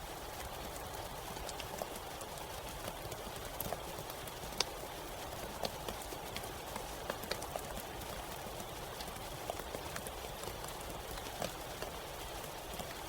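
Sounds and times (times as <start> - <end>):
steady rain in forest: 0.0 - 13.0.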